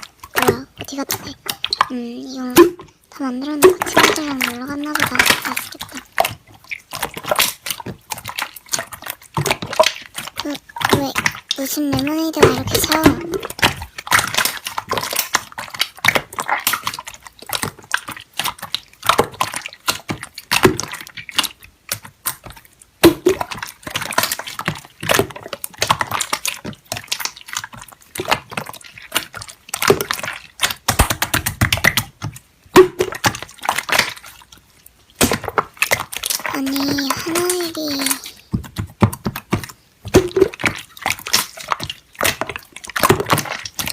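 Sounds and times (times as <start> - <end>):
slime squelching with wet clicks: 0.0 - 43.9.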